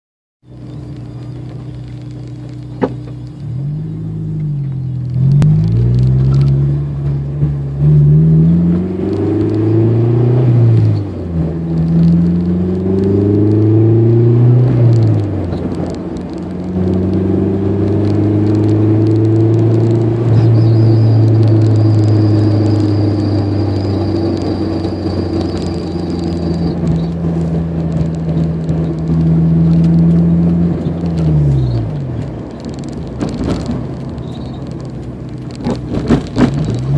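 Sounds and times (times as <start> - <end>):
car engine revving: 0.5 - 36.9.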